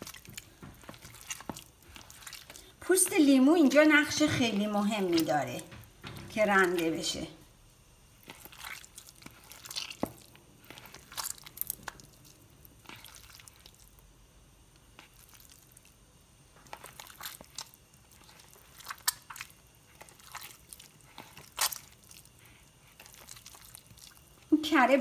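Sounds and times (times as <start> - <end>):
hands squishing butter: 0.0 - 7.3, 8.0 - 24.5.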